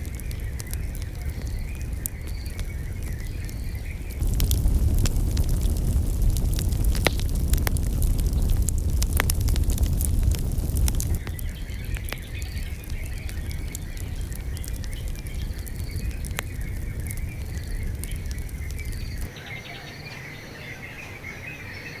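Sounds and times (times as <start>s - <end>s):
low rumble: 0.0s - 19.3s
wood fire crackling and popping: 0.0s - 19.3s
birds chirping: 0.0s - 22.0s.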